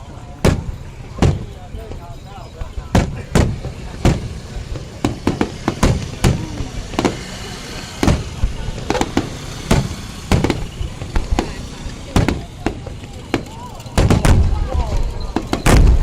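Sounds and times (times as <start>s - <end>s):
fireworks bangs: 0.1s - 16.0s.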